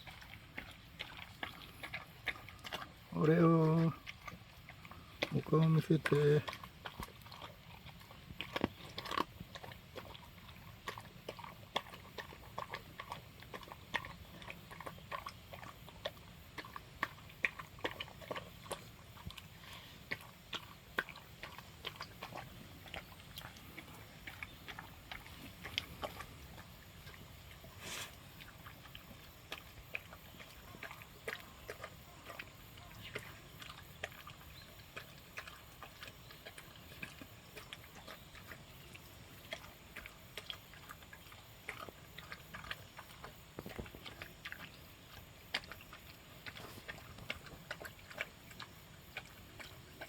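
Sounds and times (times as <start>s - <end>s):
dog crunching food: 0.0s - 50.0s.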